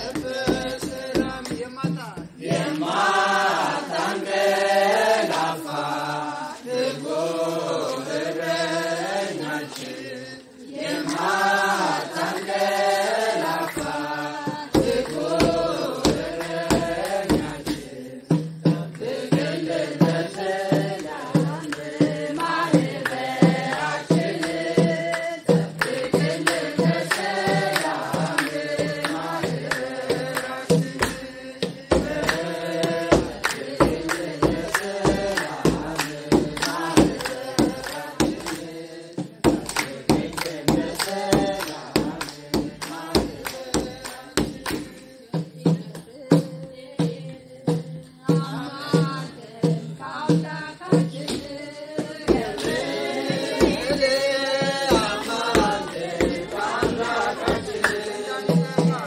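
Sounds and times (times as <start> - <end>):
drum beats: 0.0 - 10.1, 10.7 - 59.0
group singing a hymn: 0.0 - 59.0.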